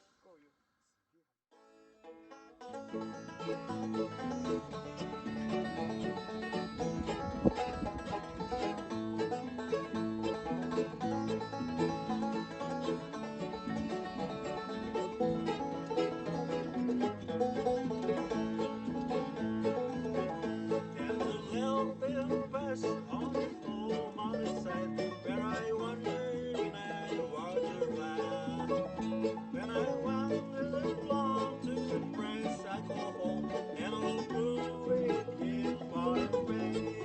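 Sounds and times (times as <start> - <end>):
plucked banjo: 1.6 - 37.0
acoustic guitar: 2.0 - 37.0
bluegrass band playing: 2.0 - 37.0.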